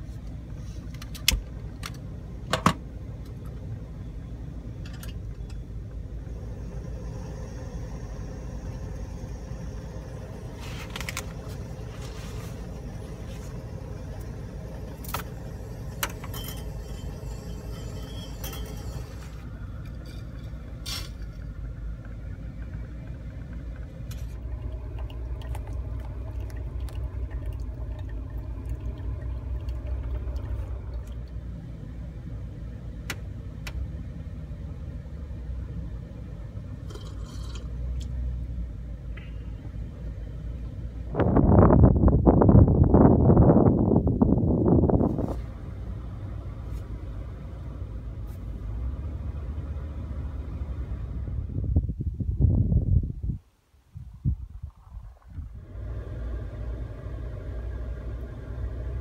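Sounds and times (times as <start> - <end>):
low rumble: 1.5 - 59.0.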